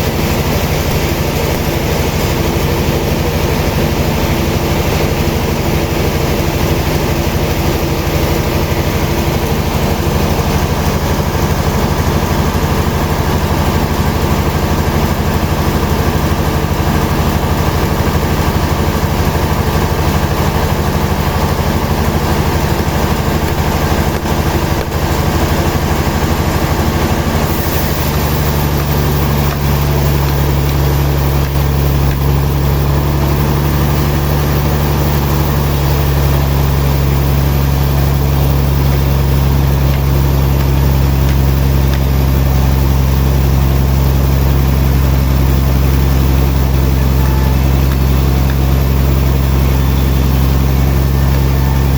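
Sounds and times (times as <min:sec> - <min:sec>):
sawmill machinery drone: 0:00.0 - 0:51.9.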